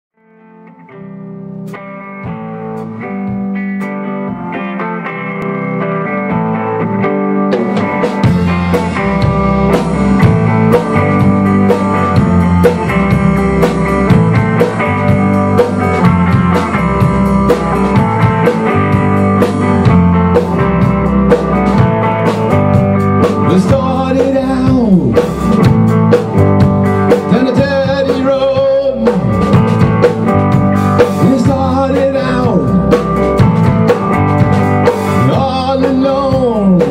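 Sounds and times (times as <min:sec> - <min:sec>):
electric guitars: 0:00.2 - 0:36.9
drum kit: 0:01.3 - 0:36.9.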